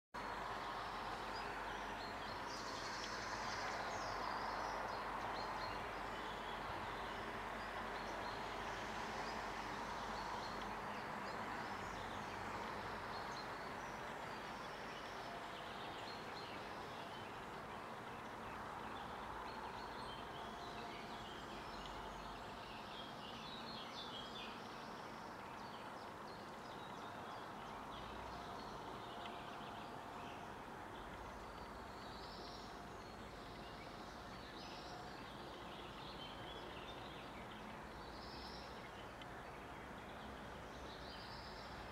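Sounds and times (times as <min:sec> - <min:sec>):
songbirds chirping: 0:00.2 - 0:41.9.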